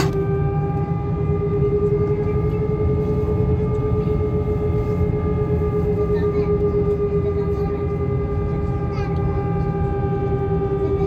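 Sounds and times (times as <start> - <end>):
jet engines whining inside cabin: 0.0 - 11.0.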